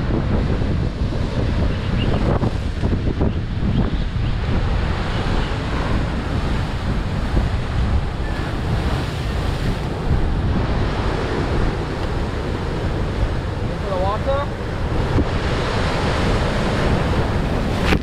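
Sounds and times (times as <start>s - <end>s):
ocean surf breaking on rocks: 0.0s - 18.0s
wind buffeting microphone: 0.0s - 18.0s.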